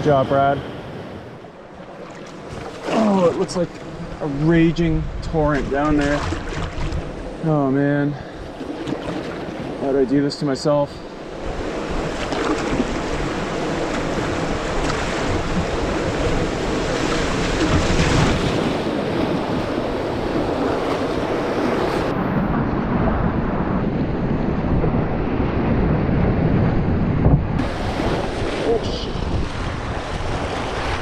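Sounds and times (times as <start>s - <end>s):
wind buffeting microphone: 2.4s - 10.3s, 11.0s - 31.0s.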